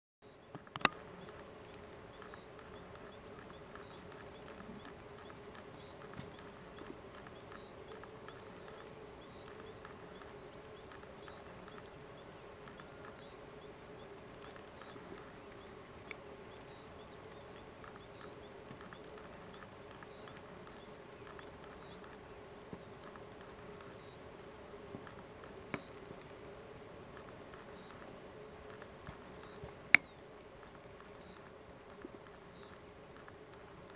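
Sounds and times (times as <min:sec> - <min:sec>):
insect chorus trilling: 0:00.2 - 0:33.9.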